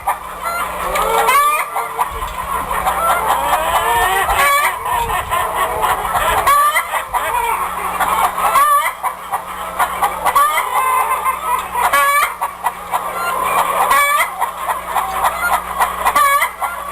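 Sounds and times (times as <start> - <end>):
chickens clucking and calling: 0.0 - 16.9.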